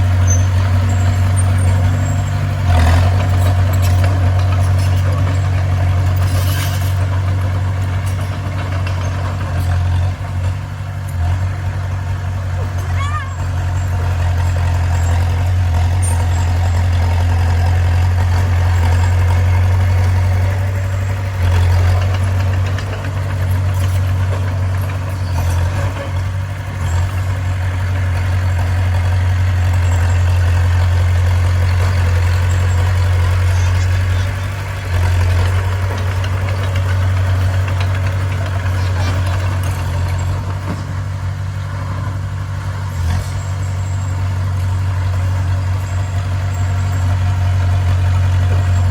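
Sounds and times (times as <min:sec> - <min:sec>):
bulldozer diesel engine droning: 0:00.0 - 0:48.9.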